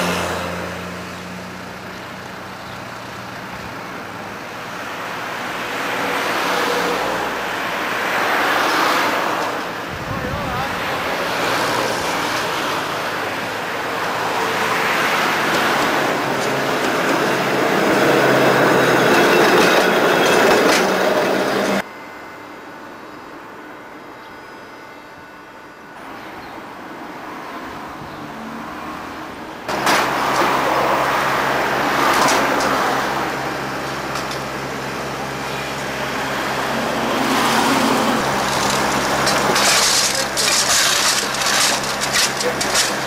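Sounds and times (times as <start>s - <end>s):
tram wheels running on rails: 0.0s - 21.8s, 25.3s - 43.0s.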